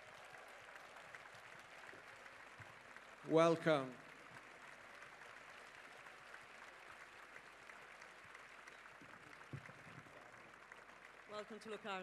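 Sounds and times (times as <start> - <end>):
faint crowd applause: 0.0 - 12.0.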